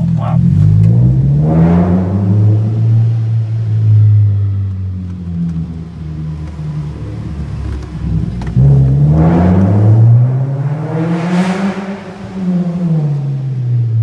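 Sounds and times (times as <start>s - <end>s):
car engine revving in car park: 0.0s - 14.0s.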